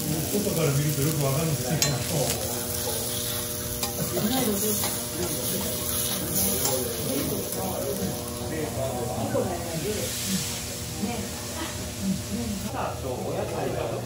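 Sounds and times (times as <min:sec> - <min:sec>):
steak sizzling on griddle: 0:00.0 - 0:12.7.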